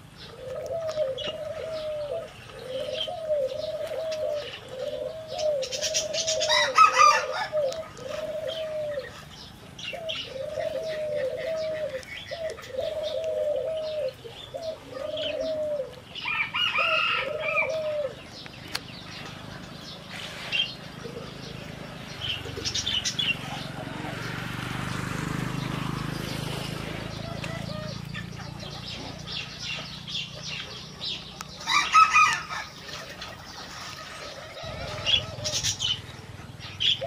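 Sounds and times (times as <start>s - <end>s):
bird hooting coos: 0.0s - 18.4s, 19.5s - 24.1s, 27.1s - 30.7s, 31.6s - 37.0s
birds chirping: 0.0s - 37.0s.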